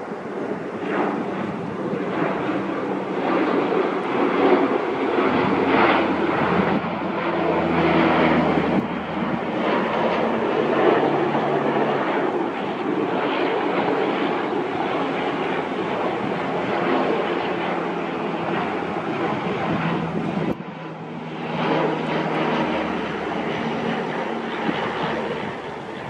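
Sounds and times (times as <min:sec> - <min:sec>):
helicopter flying by: 0:00.0 - 0:26.0.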